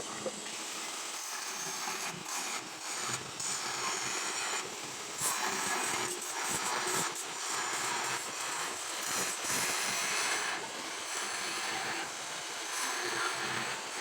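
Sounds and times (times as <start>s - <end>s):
crackling hiss of workshop: 0.0s - 14.0s.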